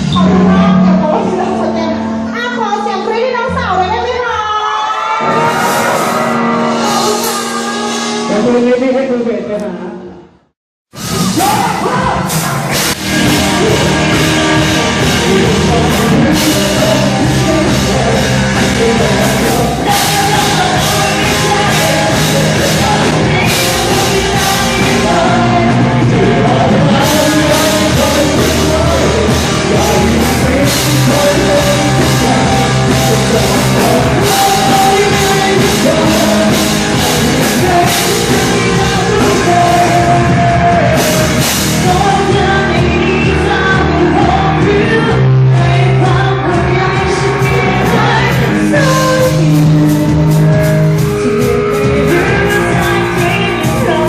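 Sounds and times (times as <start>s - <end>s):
live rock band with singer: 0.0s - 54.0s.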